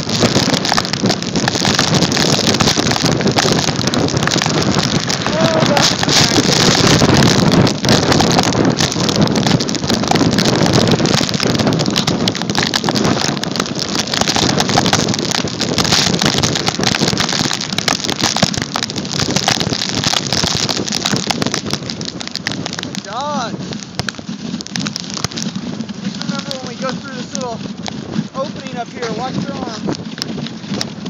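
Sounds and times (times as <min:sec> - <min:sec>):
fine crackle: 0:00.0 - 0:31.0
sled runners scraping snow: 0:00.0 - 0:31.0
wind buffeting microphone: 0:00.0 - 0:31.0.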